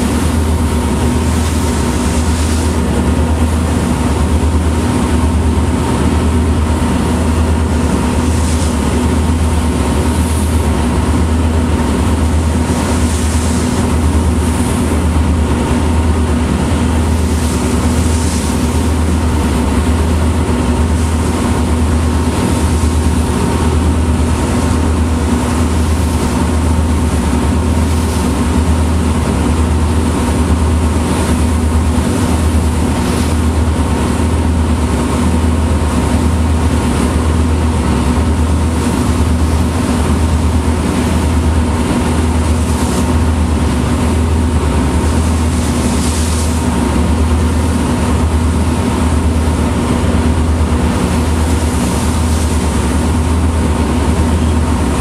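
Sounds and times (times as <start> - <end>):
boat diesel engine throbbing: 0.0 - 55.0.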